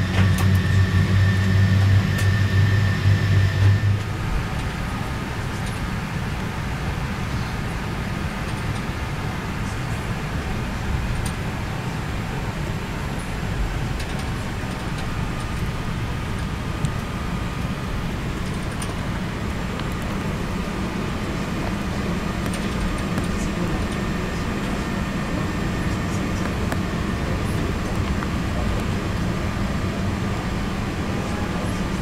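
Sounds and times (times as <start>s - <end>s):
airplane cabin low rumble: 0.0s - 32.0s.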